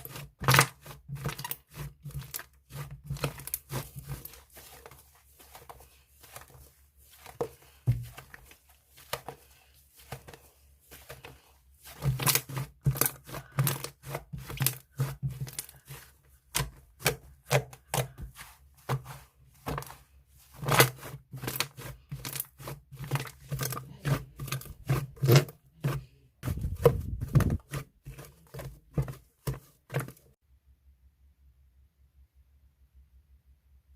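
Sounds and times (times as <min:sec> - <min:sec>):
slime squishing by hand: 0:00.0 - 0:30.4.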